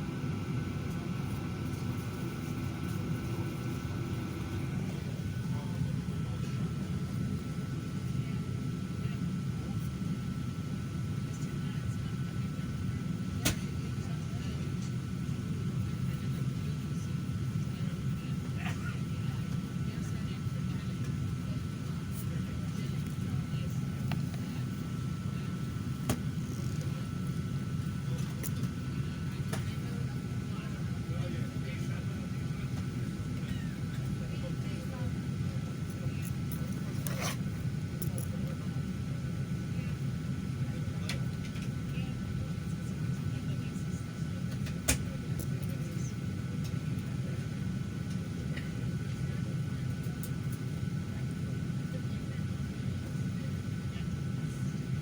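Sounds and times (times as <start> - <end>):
airliner cabin air rumble: 0.0 - 55.0
thin steady whine: 0.0 - 55.0.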